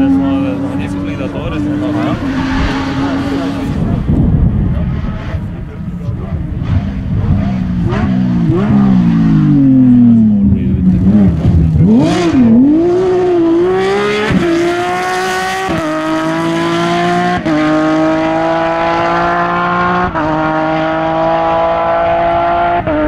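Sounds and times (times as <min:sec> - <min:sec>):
car accelerating and shifting gears: 0:00.0 - 0:23.0
rally car engine at racing revs: 0:00.0 - 0:23.0.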